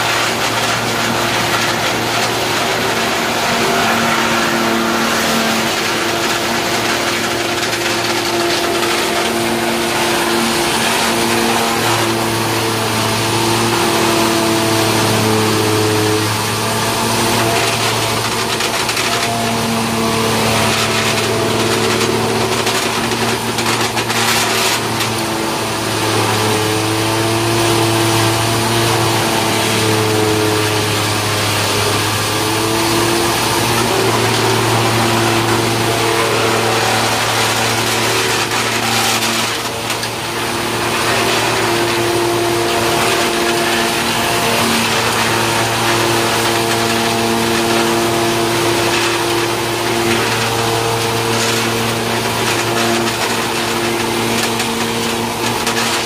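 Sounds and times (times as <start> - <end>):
grinding hiss of wood crushing: 0.0 - 56.0
wood crusher machine humming: 0.0 - 56.0.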